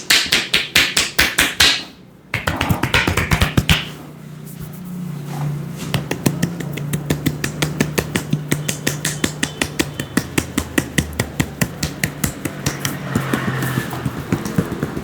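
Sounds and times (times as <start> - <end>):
rapid hand tapping on head: 0.0 - 4.0, 5.9 - 15.0.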